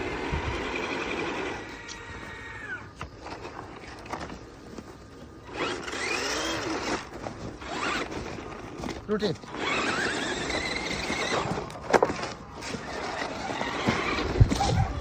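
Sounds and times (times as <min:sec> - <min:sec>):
toy truck motor whirring: 0:00.0 - 0:04.6, 0:05.4 - 0:15.0.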